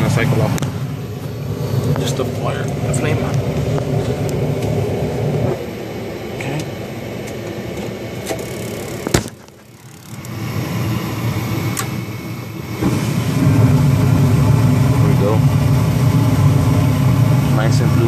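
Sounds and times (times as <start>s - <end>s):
heater blower hum: 0.0s - 18.0s.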